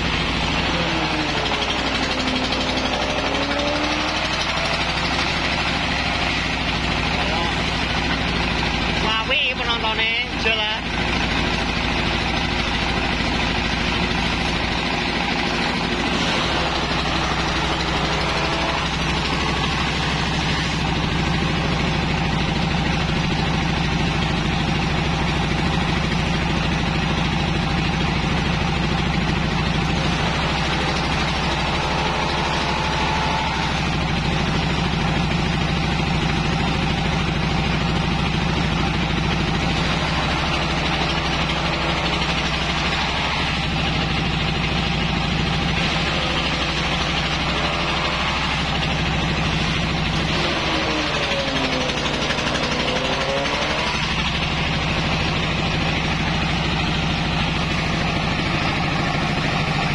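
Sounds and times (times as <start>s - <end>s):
grass chopper engine running: 0.0s - 59.9s.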